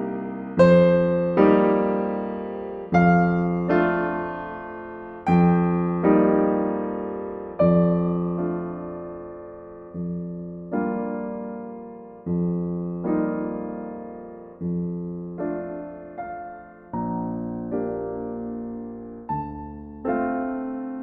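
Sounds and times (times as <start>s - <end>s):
gentle classical piano chords: 0.0s - 21.0s.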